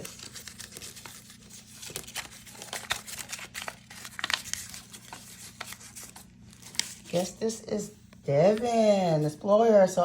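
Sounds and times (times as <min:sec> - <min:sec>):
paper crinkling and rustling: 0:00.0 - 0:09.3.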